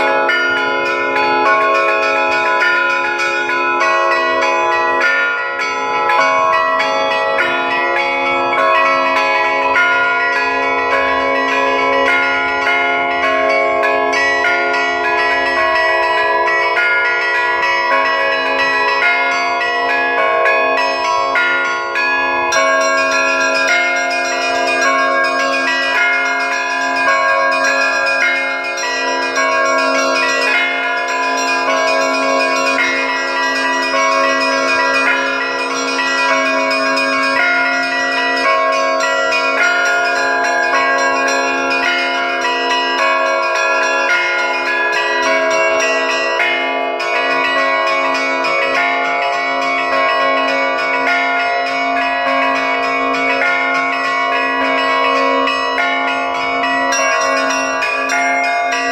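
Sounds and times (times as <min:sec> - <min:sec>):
overlapping bell tones: 0:00.0 - 0:58.9
small high bells ringing: 0:00.0 - 0:58.9
steady low bell tone: 0:00.0 - 0:58.9.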